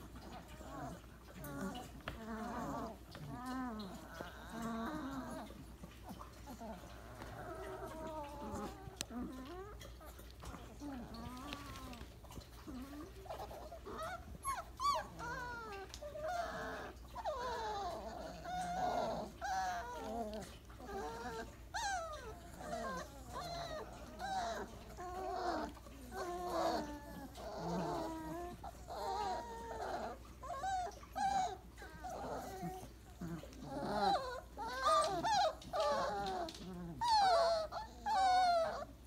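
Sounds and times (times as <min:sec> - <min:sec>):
puppies whimpering and squeaking: 0:00.0 - 0:39.0.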